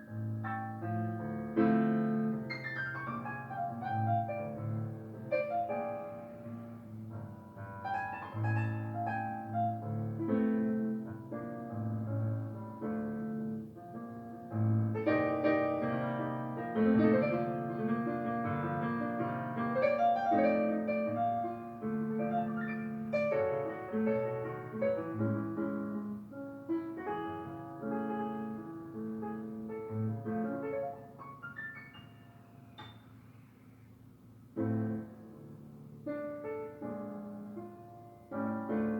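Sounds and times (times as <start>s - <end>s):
piano music: 0.0s - 33.3s, 34.5s - 38.9s.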